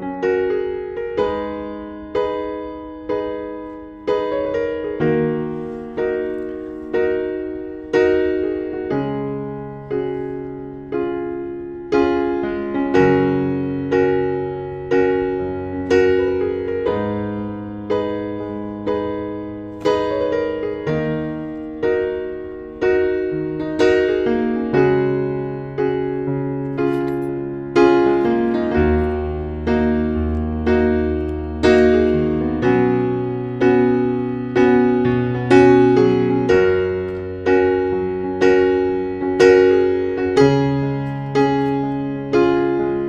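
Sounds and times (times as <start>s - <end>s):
gentle piano music: 0.0s - 43.0s.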